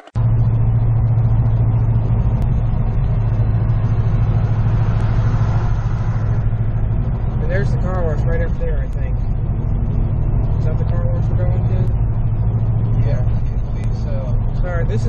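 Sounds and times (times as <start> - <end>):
car engine droning: 0.0 - 15.0
road noise: 0.0 - 15.0.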